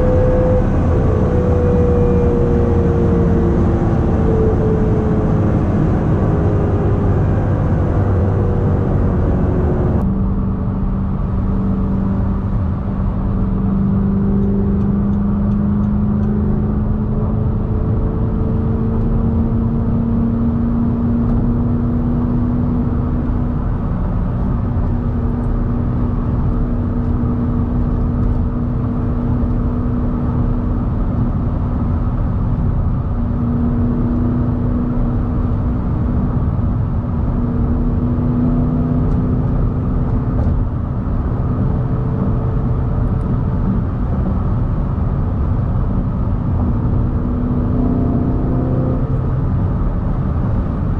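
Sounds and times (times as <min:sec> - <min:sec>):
car engine at speed: 0:00.0 - 0:50.9
road and tyre noise: 0:00.0 - 0:50.9.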